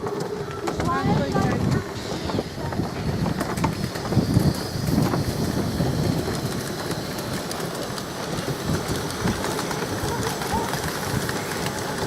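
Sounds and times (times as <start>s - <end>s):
miniature steam train running: 0.0s - 12.0s
wind buffeting microphone: 0.4s - 12.0s.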